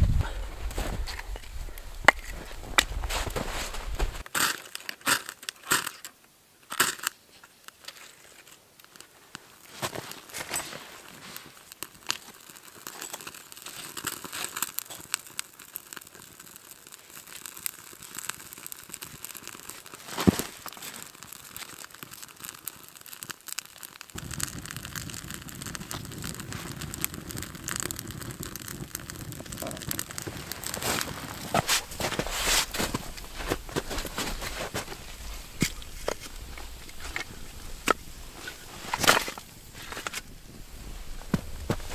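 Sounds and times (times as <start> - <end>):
kindling crinkling and snapping: 0.0 - 41.9.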